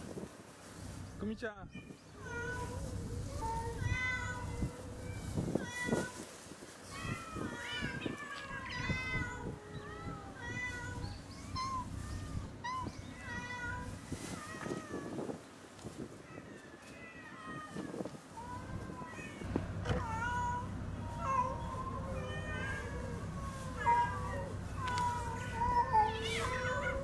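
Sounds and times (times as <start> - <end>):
cats meowing: 1.7 - 15.4, 16.1 - 27.0.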